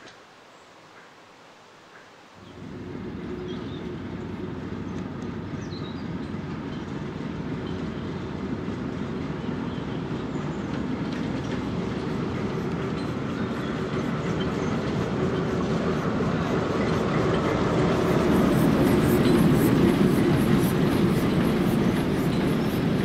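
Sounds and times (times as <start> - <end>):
wheels clicking on rails: 1.9 - 23.0
diesel locomotive engine rumble: 2.4 - 23.0.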